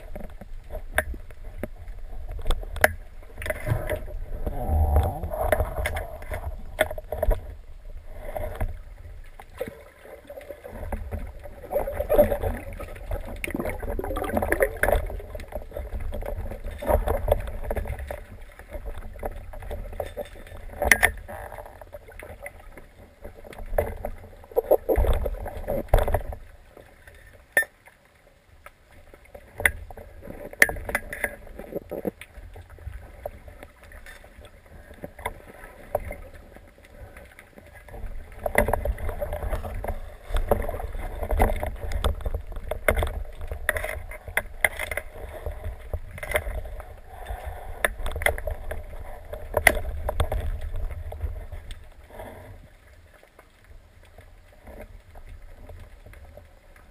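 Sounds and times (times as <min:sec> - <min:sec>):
water sloshing and rumbling: 0:00.0 - 0:56.9.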